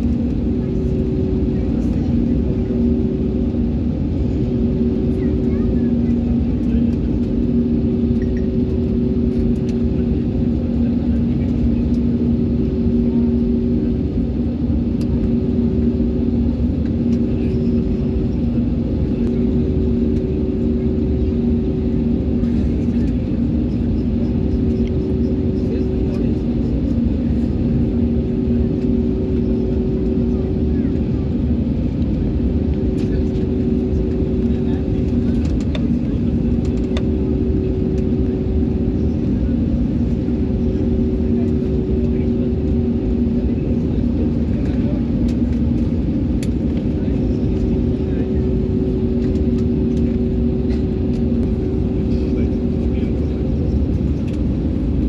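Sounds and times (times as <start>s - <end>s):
airliner engine drone in cabin: 0.0s - 55.0s.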